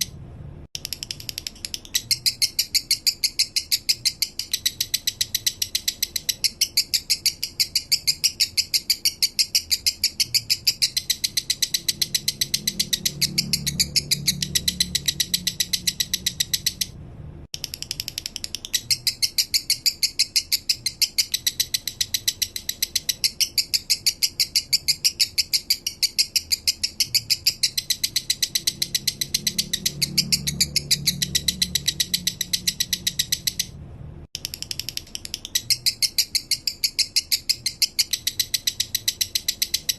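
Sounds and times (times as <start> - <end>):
lovebird chattering song: 0.8 - 17.0, 17.6 - 33.8, 34.4 - 39.9.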